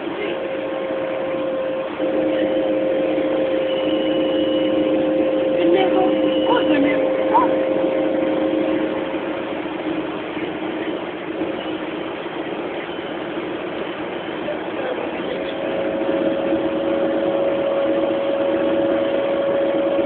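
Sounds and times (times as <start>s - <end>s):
coach engine and road noise: 0.0s - 20.0s
steady whine: 0.0s - 20.0s.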